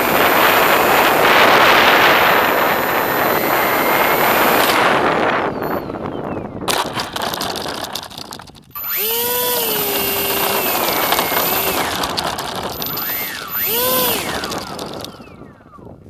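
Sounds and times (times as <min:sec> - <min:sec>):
motor revving: 0:00.0 - 0:06.0, 0:06.7 - 0:15.7
high steady whine: 0:00.0 - 0:16.0
wheels rumbling over gravelly asphalt: 0:00.0 - 0:16.0.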